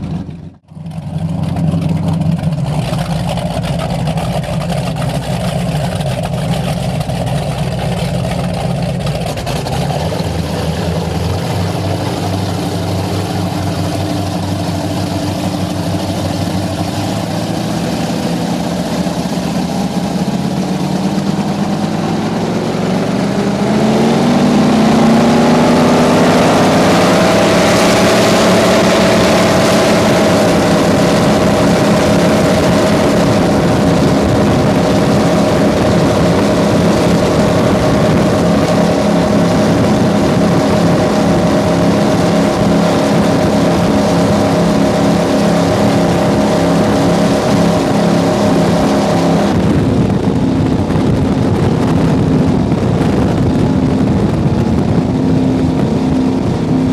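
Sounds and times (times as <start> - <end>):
speedboat engines accelerating: 0.0 - 56.9
wind and water rushing: 0.0 - 56.9.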